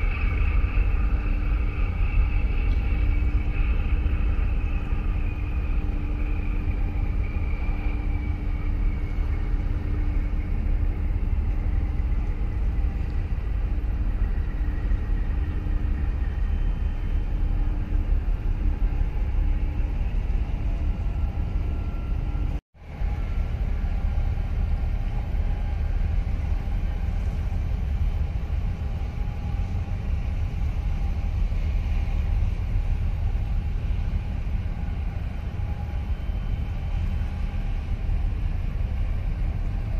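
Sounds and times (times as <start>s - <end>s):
ship machinery rumble and hum: 0.0s - 39.9s.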